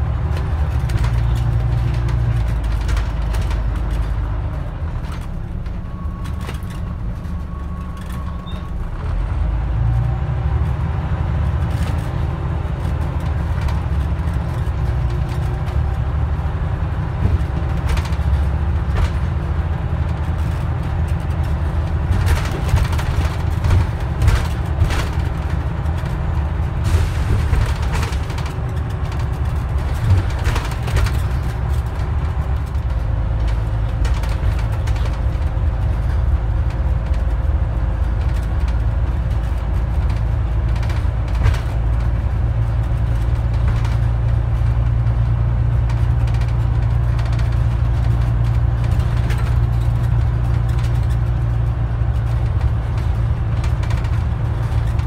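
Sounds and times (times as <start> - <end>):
bus body rattling and knocking: 0.0 - 55.0
diesel bus engine drone: 0.0 - 55.0.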